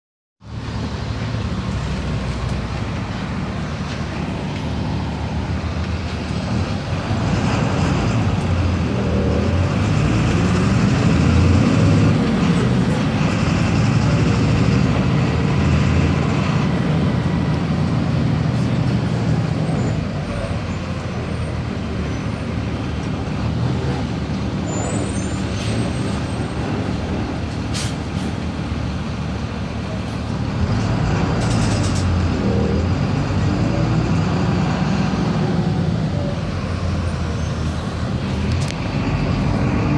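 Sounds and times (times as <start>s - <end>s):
bus diesel engine running: 0.4s - 39.9s.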